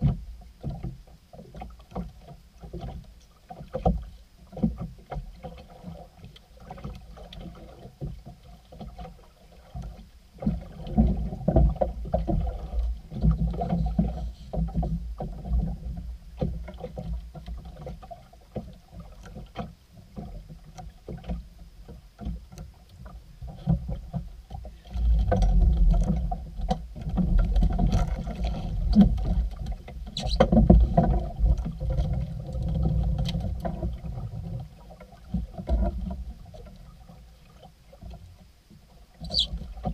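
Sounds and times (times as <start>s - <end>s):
water sloshing against boat hull: 0.0s - 39.9s.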